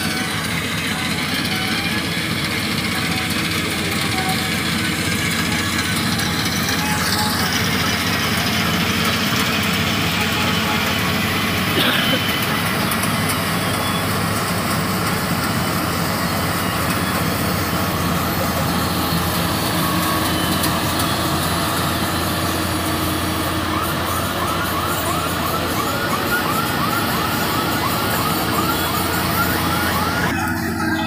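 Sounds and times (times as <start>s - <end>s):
combine harvester droning: 0.0s - 31.0s.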